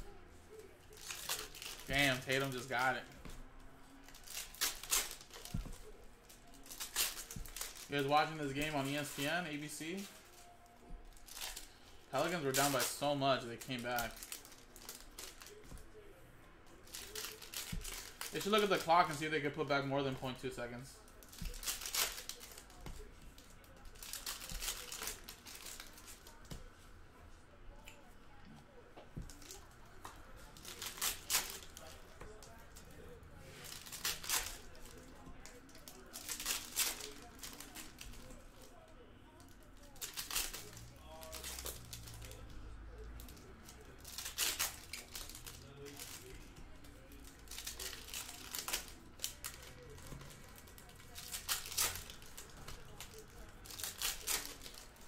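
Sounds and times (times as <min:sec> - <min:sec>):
wrappers crinkling and tearing: 0:00.0 - 0:16.1, 0:16.7 - 0:26.8, 0:29.2 - 0:55.0.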